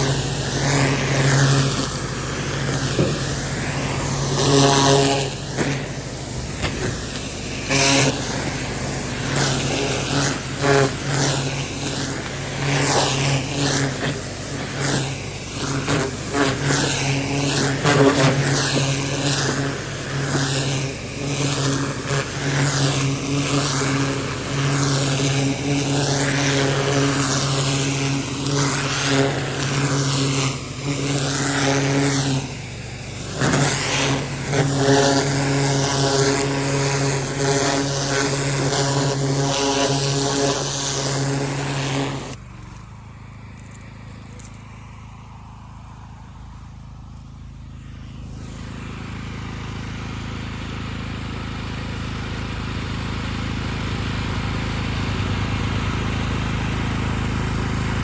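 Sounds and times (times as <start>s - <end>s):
water jet hissing on gravel: 0.0s - 51.2s
pressure washer motor hum: 0.0s - 58.0s.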